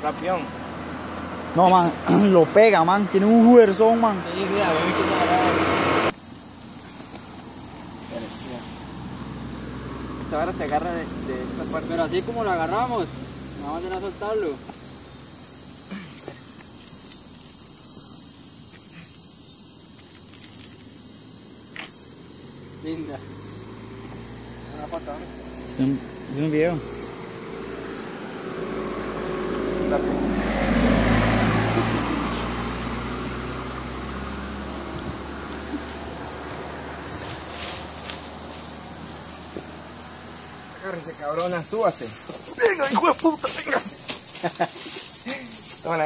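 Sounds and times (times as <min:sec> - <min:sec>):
vehicle low rumble: 0:00.0 - 0:18.7, 0:20.0 - 0:46.0
night insects trilling: 0:00.0 - 0:46.0.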